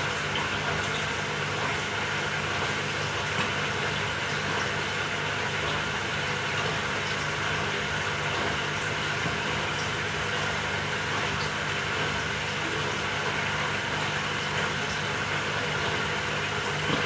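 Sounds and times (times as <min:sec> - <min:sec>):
washing machine whirring: 0:00.0 - 0:17.0.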